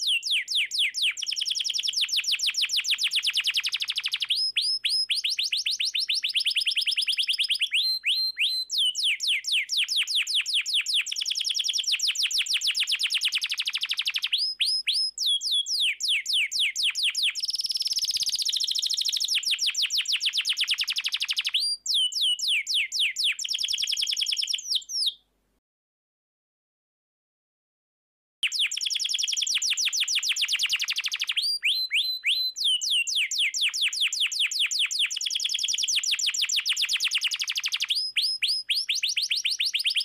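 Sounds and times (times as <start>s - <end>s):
canary singing trills: 0.0s - 25.2s, 28.4s - 40.0s.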